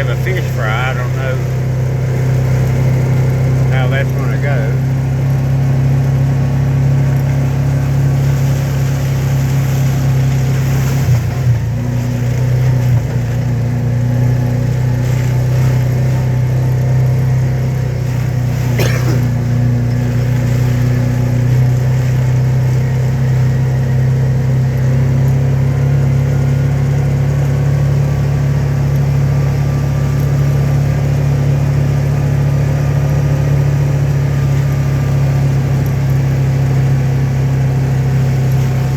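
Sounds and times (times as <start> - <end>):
vehicle engine running steadily: 0.0 - 38.9.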